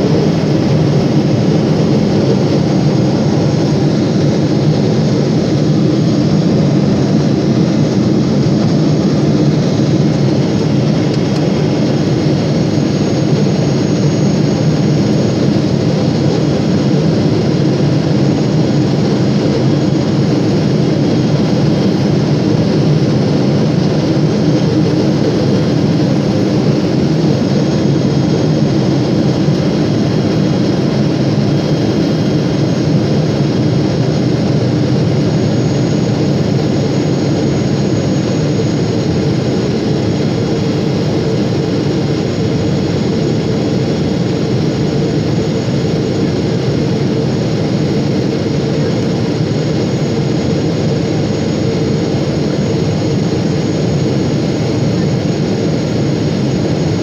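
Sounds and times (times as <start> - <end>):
jet engine roar in cabin: 0.0 - 57.0.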